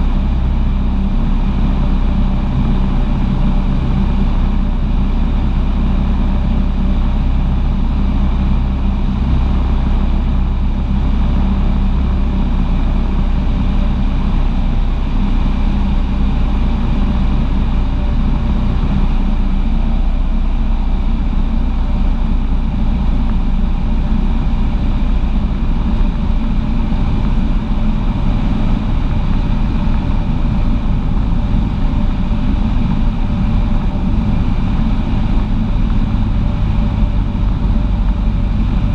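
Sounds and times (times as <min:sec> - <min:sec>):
airplane engine and propeller: 0:00.0 - 0:38.9.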